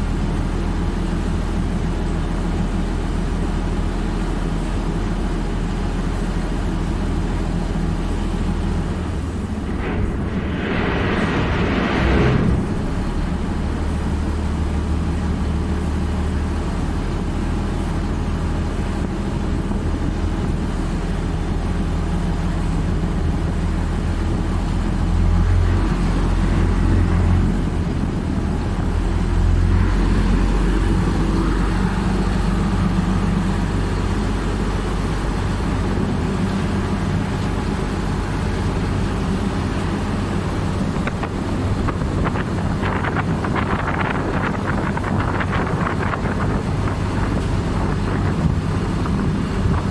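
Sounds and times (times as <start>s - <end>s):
engine running with low drone: 0.0s - 49.9s.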